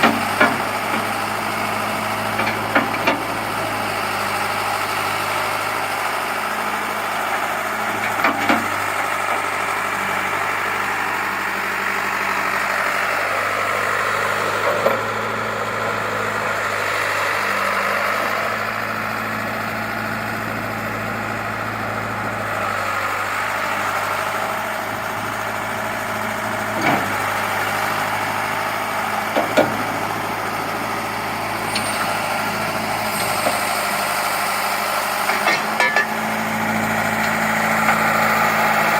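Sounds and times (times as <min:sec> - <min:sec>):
backhoe engine idling: 0:00.0 - 0:38.9.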